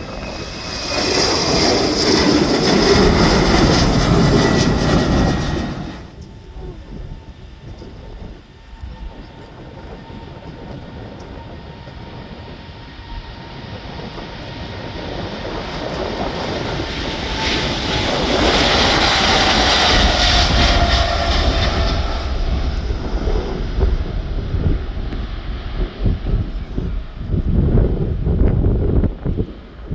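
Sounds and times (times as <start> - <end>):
jet airliner engine roar: 0.0 - 29.9
jet engine whine falling in pitch: 0.0 - 29.9.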